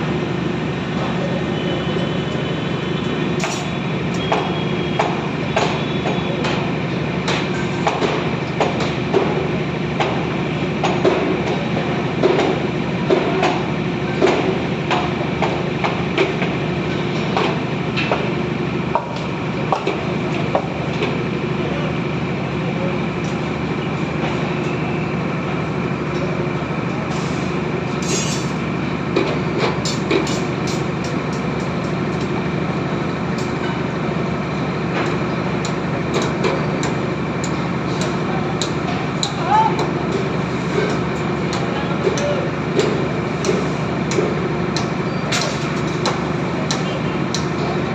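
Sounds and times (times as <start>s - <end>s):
steady machine hum: 0.0s - 47.9s.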